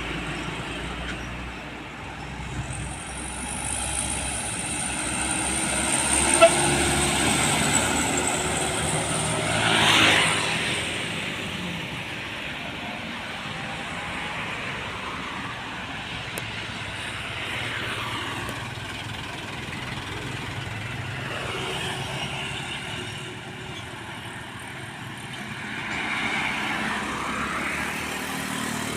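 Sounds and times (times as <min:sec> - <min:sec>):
road traffic passing: 0:00.0 - 0:28.9.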